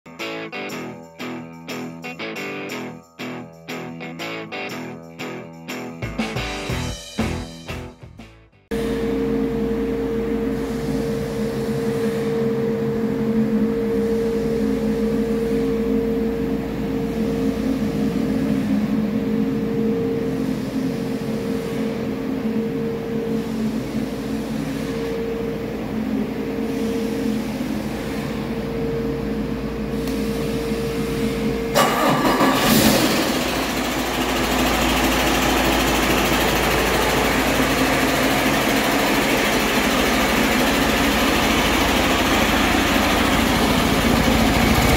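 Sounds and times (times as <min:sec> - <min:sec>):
diesel engine running: 0:08.7 - 0:44.9.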